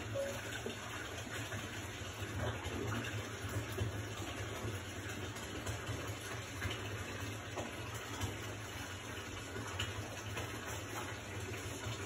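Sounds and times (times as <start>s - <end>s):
bathtub filling from tap: 0.0s - 12.0s.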